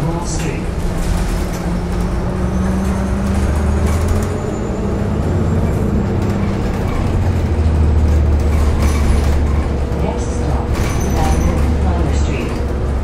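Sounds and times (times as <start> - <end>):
bus engine humming: 0.0 - 13.0
road and tyre noise: 0.0 - 13.0.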